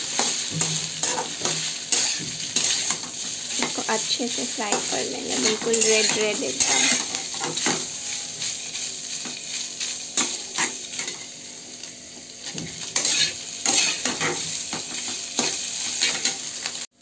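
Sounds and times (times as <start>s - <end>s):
food sizzling in hot oil: 0.0s - 17.0s
metal spatula scraping pan: 0.1s - 11.3s, 12.5s - 16.4s.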